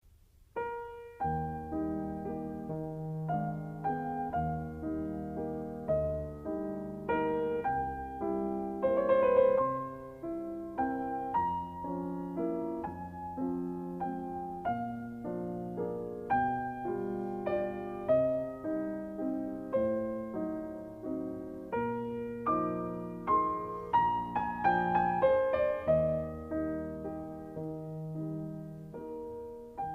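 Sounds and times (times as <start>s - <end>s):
gentle piano music: 0.3s - 29.9s.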